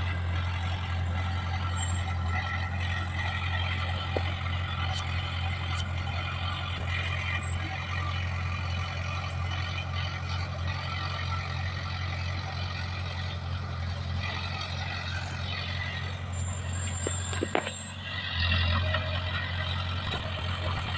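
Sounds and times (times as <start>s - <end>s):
bulldozer diesel engine droning: 0.0s - 20.9s.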